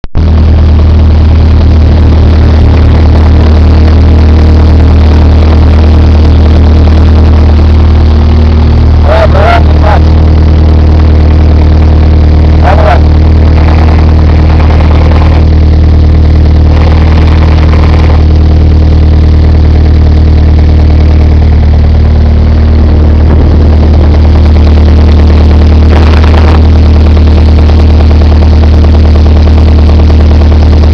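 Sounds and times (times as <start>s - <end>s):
car engine idling: 0.0s - 30.9s
engine knocking: 0.1s - 30.9s.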